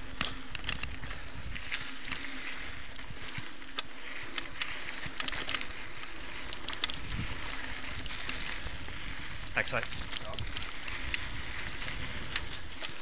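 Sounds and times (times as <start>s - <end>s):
bike tyres rolling on gravel: 0.0s - 13.0s
stones and bike rattling: 0.0s - 13.0s.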